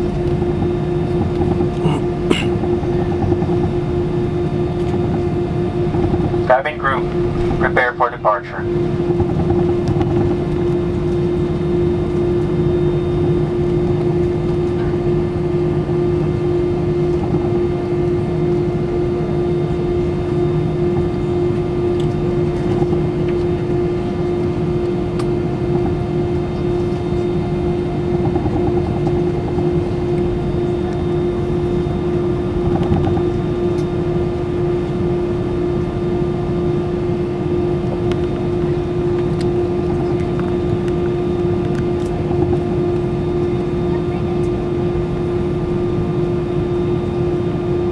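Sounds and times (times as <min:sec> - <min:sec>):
jet engines droning: 0:00.0 - 0:47.9
mid-pitched cabin hum: 0:00.0 - 0:47.9.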